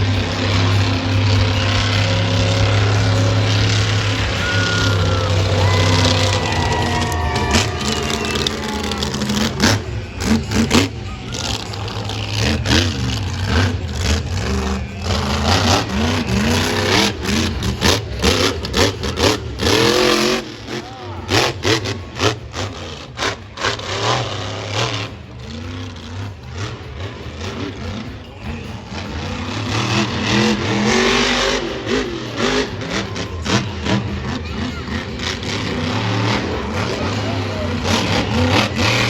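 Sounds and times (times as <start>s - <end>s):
monster truck engine revving: 0.0s - 39.0s.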